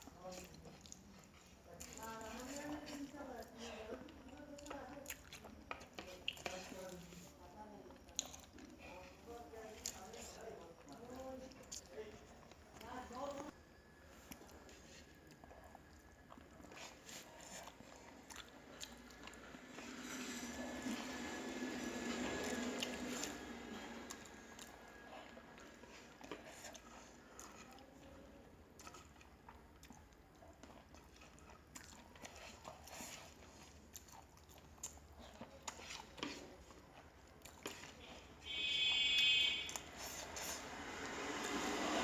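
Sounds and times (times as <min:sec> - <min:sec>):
quiet chewing and mouth clicks: 0:00.0 - 0:41.6.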